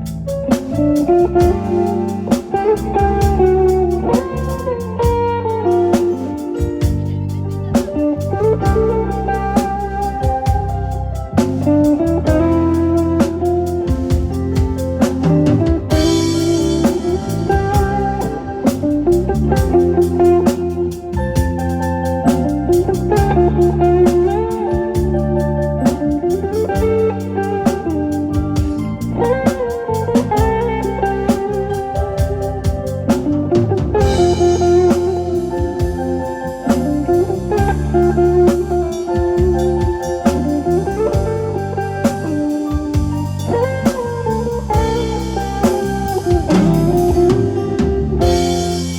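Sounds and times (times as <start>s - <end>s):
bass guitar: 0.0s - 48.9s
drum kit: 0.0s - 48.9s
guitar melody: 0.0s - 48.9s.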